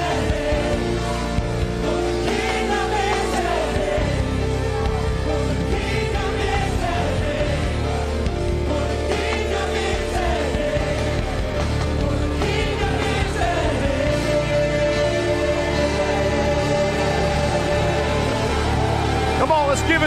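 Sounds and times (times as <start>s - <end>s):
people singing: 0.0s - 19.4s
keyboard chords: 0.0s - 20.0s
steady bass: 0.0s - 20.0s.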